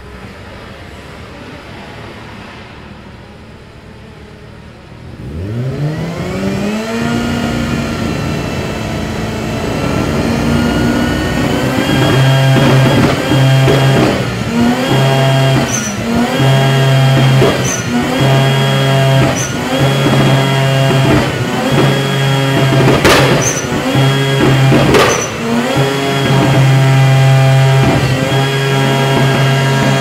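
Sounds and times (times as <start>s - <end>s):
loud engine bursts: 2.0s - 30.0s
rotary engine revving: 5.0s - 30.0s.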